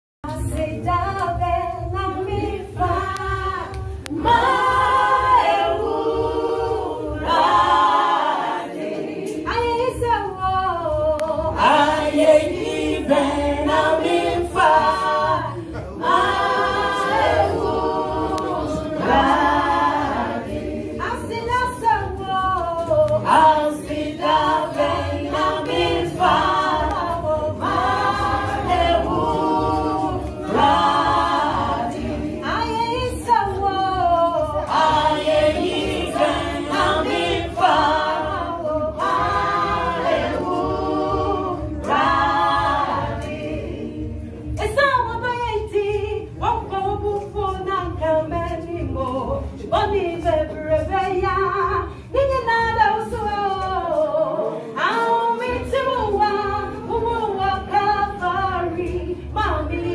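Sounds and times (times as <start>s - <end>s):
women singing gospel in harmony: 0.2s - 59.9s.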